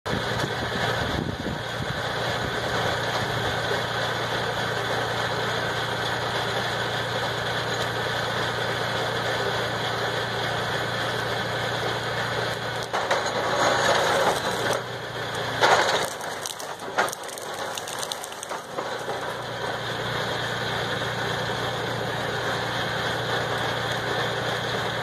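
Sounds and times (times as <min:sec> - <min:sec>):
tractor diesel engine idling: 0:00.2 - 0:25.0.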